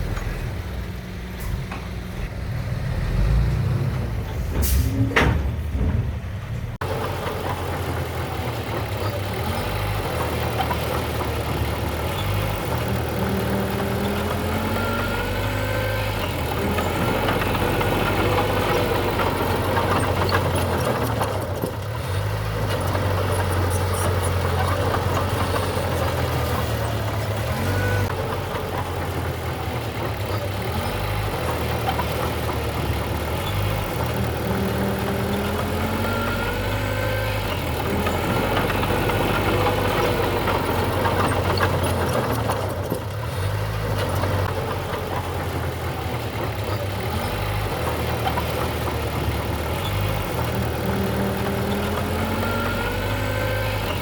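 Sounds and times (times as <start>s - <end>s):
heavy diesel engines rumbling: 0.0s - 54.0s
metallic squeaking and clatter: 7.5s - 54.0s.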